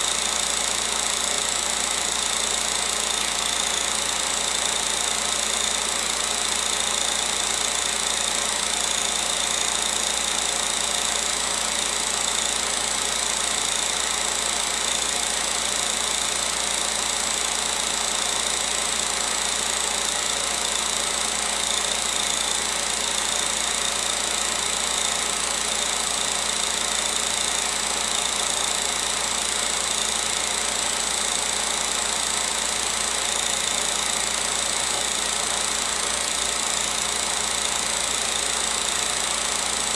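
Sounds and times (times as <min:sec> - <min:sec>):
film projector whir and clatter: 0:00.0 - 0:39.9.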